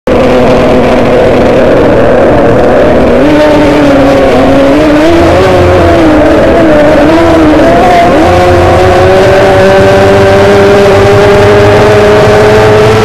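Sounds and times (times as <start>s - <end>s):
racing outboard engine running hard: 0.1s - 13.0s.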